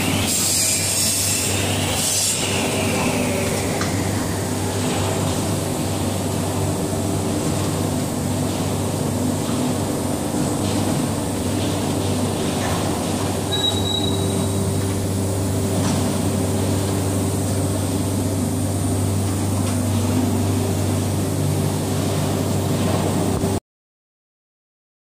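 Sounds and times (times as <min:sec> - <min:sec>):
faint steady machine whine: 0:00.0 - 0:23.6
machinery low hum: 0:00.0 - 0:23.6.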